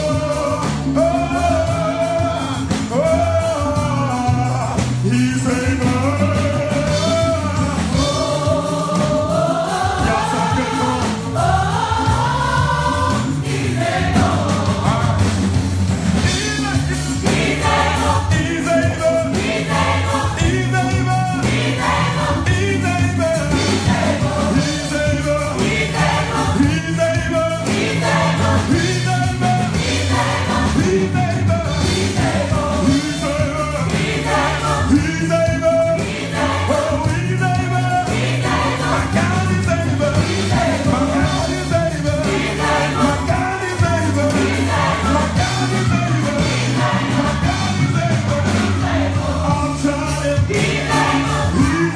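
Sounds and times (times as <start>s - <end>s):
lead singer singing: 0.0s - 15.5s, 16.2s - 51.9s
backing singers: 0.0s - 51.9s
instrumental accompaniment: 0.0s - 51.9s.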